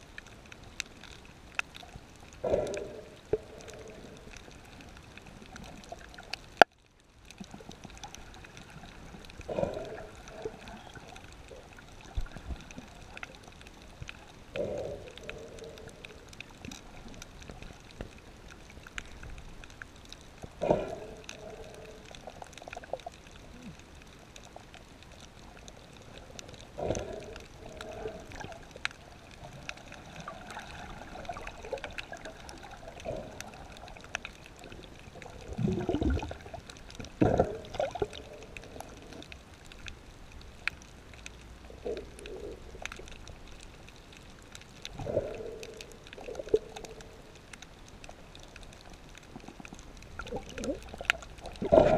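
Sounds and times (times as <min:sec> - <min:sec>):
muffled underwater water noise: 0:00.0 - 0:51.9
water gurgling: 0:00.0 - 0:51.9.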